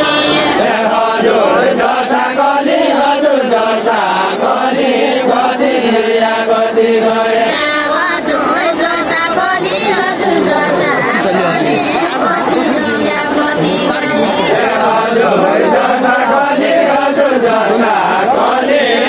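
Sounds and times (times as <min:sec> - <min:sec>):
group singing in unison: 0:00.0 - 0:19.0.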